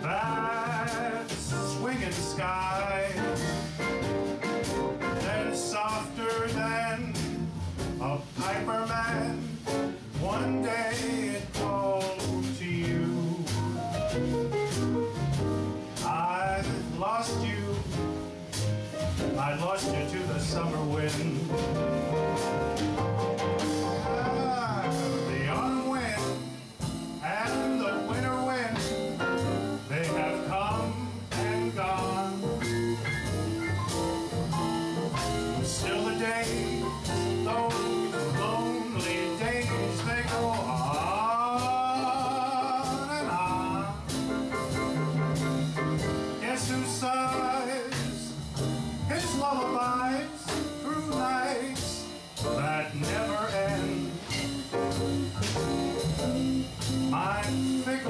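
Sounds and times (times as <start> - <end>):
drums: 0.0 - 58.0.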